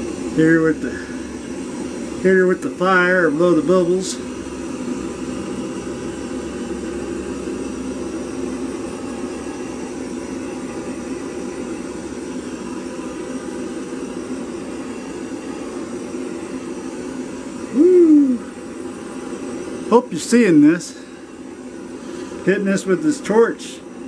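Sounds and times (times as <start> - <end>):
butane torch hissing: 0.0 - 24.0.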